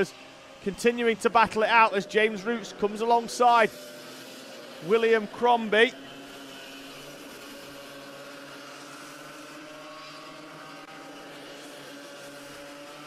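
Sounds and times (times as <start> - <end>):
kart engines running: 0.0 - 13.0.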